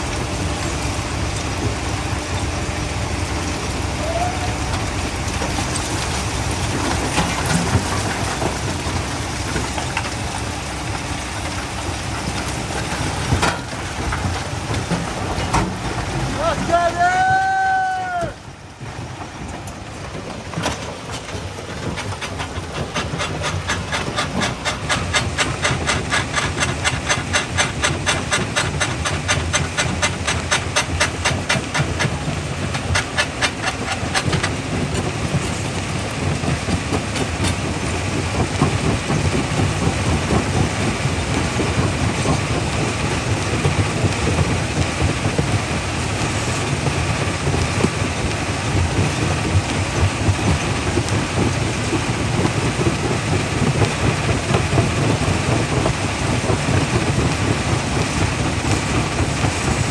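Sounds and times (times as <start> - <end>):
heavy low rumble: 0.0 - 59.9.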